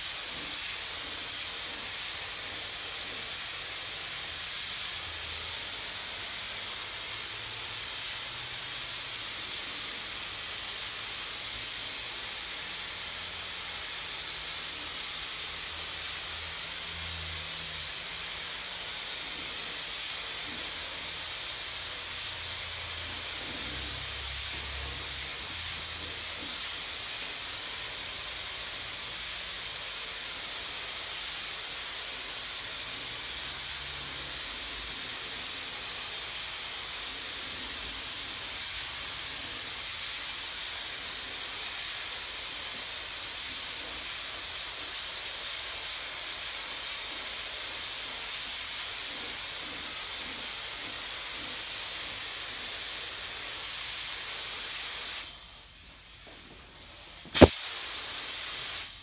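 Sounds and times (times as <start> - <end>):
spray gun hissing: 0.0 - 59.0.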